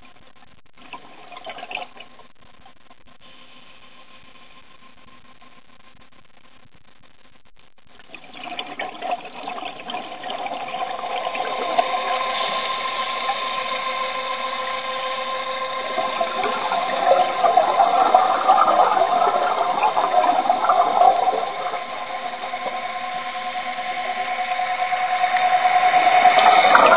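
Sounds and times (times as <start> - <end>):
regulator bubbles gurgling underwater: 0.0 - 3.7, 7.9 - 26.9
steady mechanical hum: 0.0 - 26.9.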